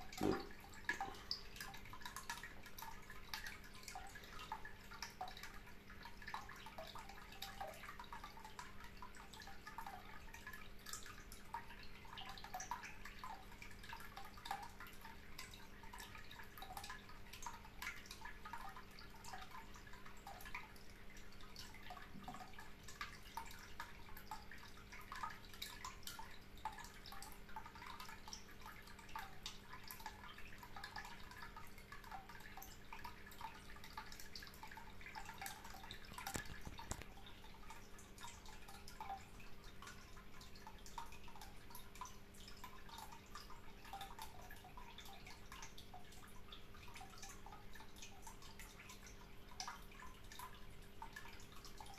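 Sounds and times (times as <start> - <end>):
faint water trickling and dripping: 0.0 - 51.9.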